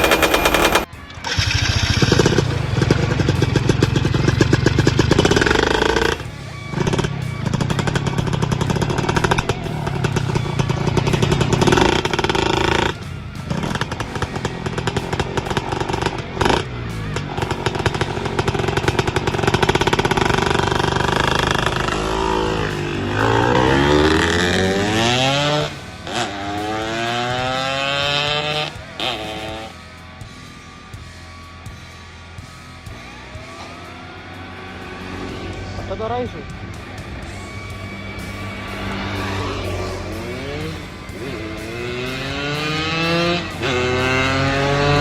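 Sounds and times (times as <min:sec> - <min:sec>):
two-stroke engine revving: 0:00.0 - 0:29.9, 0:34.3 - 0:45.0.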